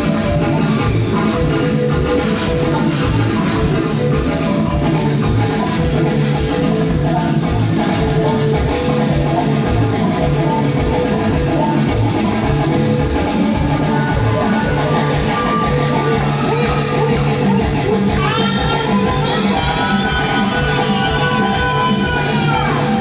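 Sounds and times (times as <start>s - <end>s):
live band playing instrumental: 0.0s - 23.0s.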